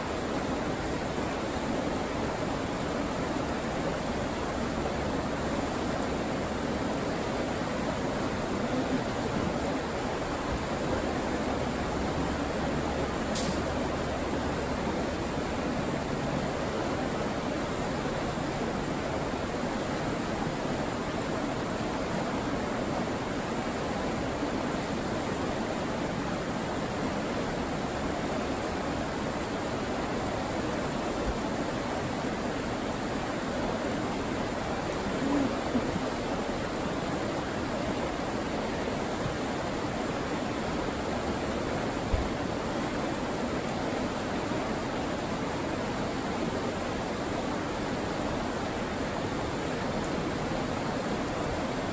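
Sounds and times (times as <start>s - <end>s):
river rapids rushing: 0.0s - 51.9s.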